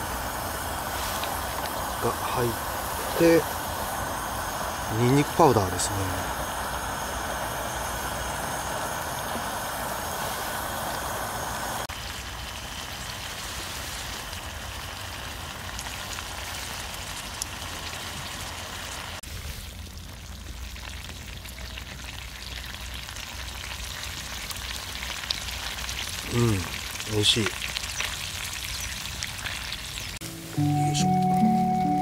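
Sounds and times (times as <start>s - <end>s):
oil sizzling in a can: 0.0s - 31.8s.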